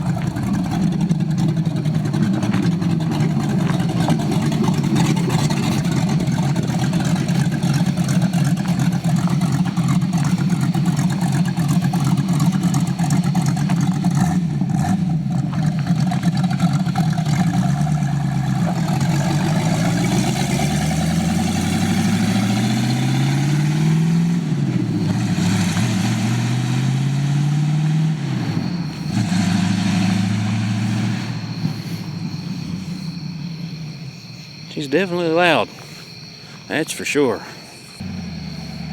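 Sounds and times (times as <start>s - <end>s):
car engine revving: 0.0s - 35.7s, 37.9s - 38.9s.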